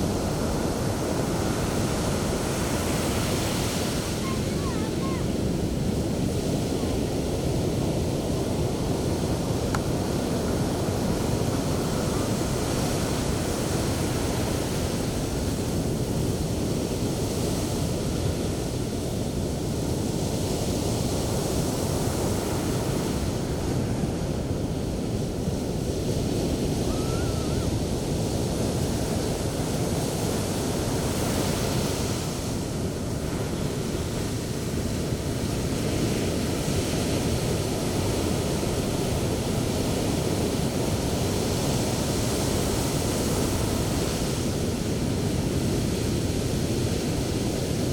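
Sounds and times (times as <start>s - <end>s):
surf breaking on beach: 0.0s - 18.7s, 21.8s - 47.9s.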